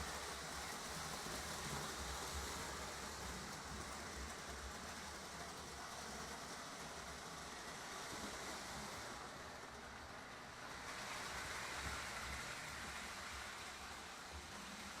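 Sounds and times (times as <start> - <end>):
model trains whirring on track: 0.0 - 15.0.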